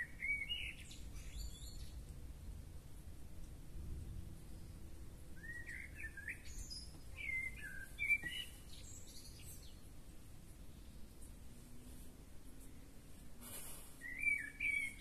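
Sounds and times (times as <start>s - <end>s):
outdoor background noise: 0.0s - 15.0s
songbird singing: 0.0s - 15.0s.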